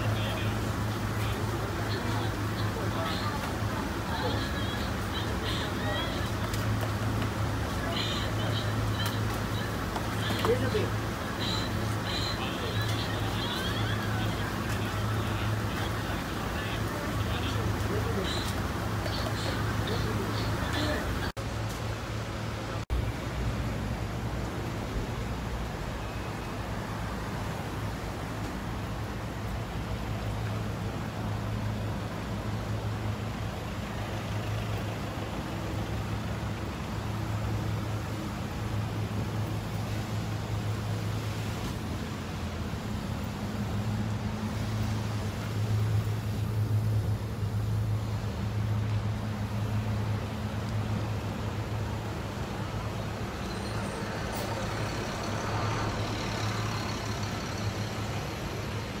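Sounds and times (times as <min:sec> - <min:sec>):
low engine hum: 0:00.0 - 0:59.0
street traffic noise: 0:00.0 - 0:59.0.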